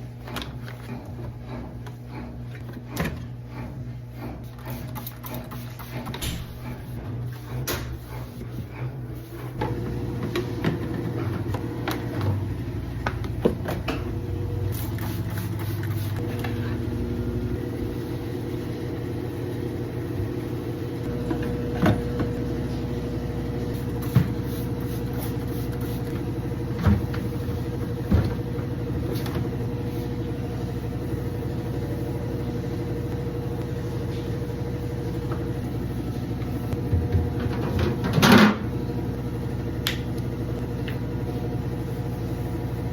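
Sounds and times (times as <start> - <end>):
motor hum: 0.0 - 42.9.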